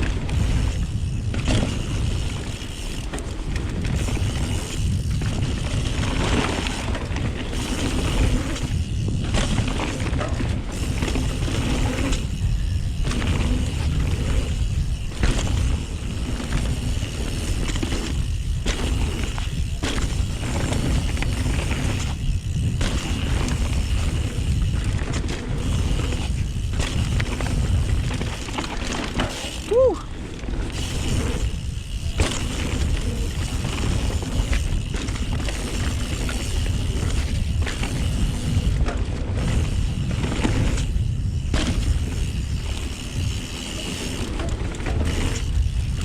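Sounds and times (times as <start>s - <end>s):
bike frame rattling: 0.0s - 46.0s
bike tyres rumbling on dirt: 0.0s - 46.0s.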